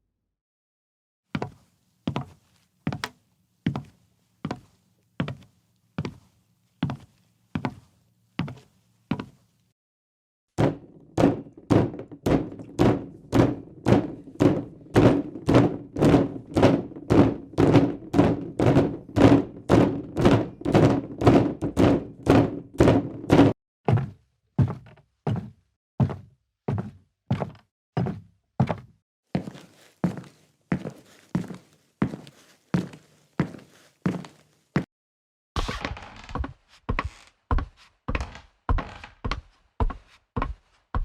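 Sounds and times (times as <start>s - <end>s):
footsteps on wooden floor: 1.3s - 9.4s, 10.6s - 34.9s, 35.6s - 41.0s.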